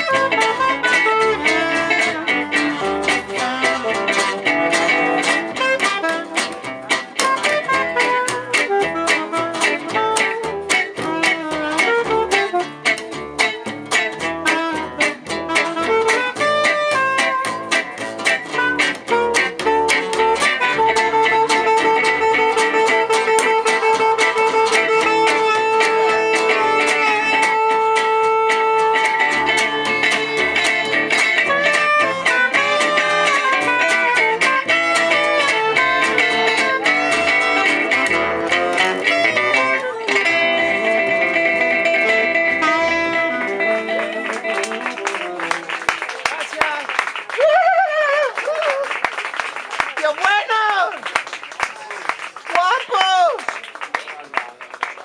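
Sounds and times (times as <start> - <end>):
plucked guitar notes: 0.0 - 46.4
jazz band playing: 0.0 - 47.2.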